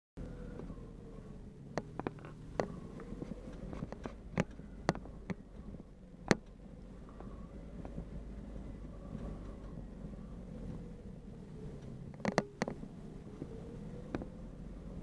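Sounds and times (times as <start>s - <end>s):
vehicle engine and tyre rumble: 0.2s - 15.0s.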